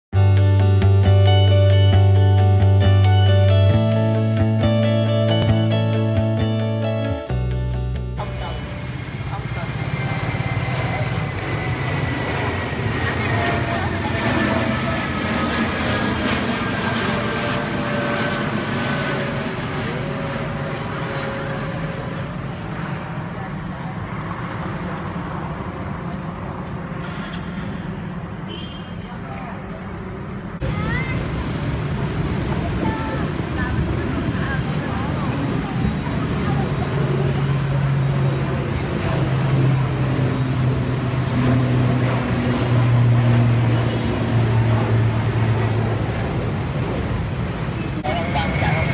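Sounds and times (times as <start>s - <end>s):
propeller drone: 0.2s - 48.9s
jet engine roar: 8.0s - 48.9s.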